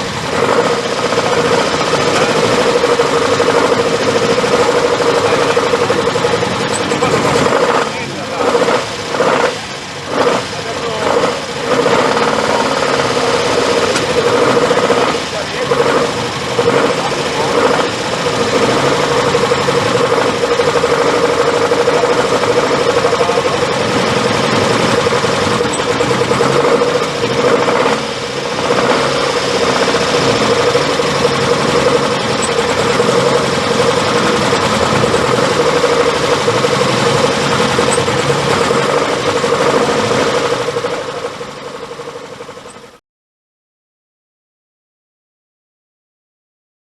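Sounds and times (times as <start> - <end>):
race car engine running: 0.0 - 43.0.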